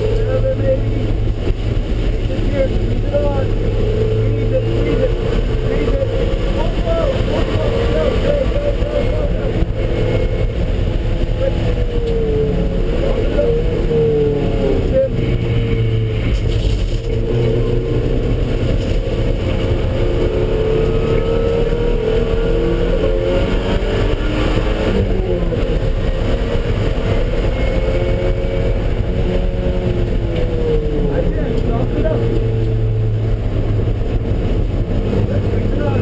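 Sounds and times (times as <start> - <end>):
car engine revving hard: 0.0 - 36.0
road and wind rumble: 0.0 - 36.0.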